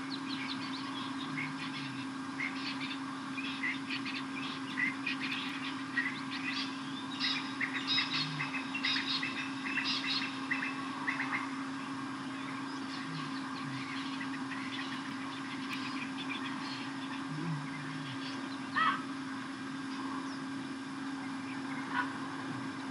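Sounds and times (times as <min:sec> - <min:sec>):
lapwings calling: 0:00.0 - 0:22.9.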